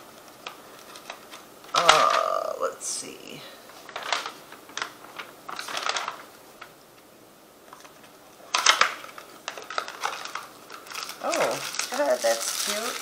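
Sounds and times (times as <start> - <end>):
packaging clicks and rustles: 0.0 - 2.3, 3.8 - 6.8, 7.6 - 13.0.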